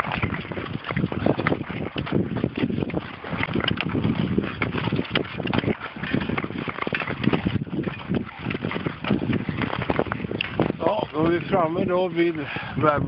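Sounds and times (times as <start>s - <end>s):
skates scraping on ice: 0.0s - 12.8s
wind on microphone: 0.0s - 13.0s.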